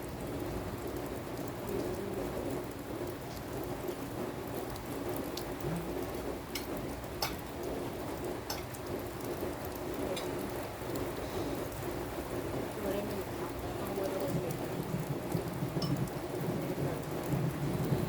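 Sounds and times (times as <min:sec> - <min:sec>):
sharp drip ticks: 0:00.0 - 0:18.0
steady rain hiss: 0:00.0 - 0:18.0.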